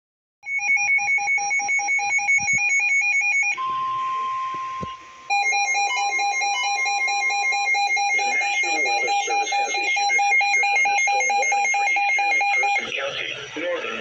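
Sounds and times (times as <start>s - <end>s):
rapid two-tone alarm beeping: 0.4s - 14.0s
steady single alarm tone: 0.9s - 12.8s.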